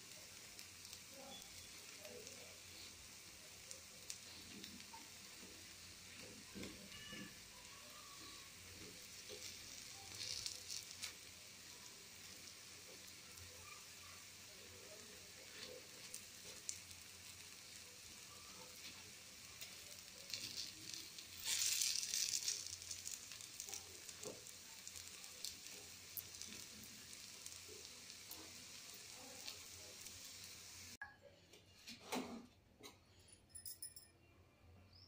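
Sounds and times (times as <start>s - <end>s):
batter frying in oil: 0.0s - 31.0s.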